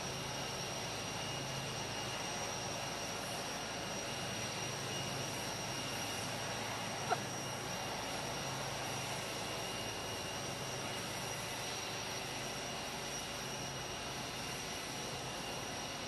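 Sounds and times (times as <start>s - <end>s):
jet aircraft turbine whine: 0.0s - 16.0s.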